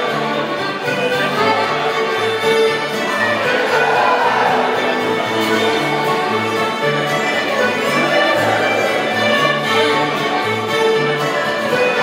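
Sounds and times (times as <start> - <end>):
fiddle dance music: 0.0 - 12.0.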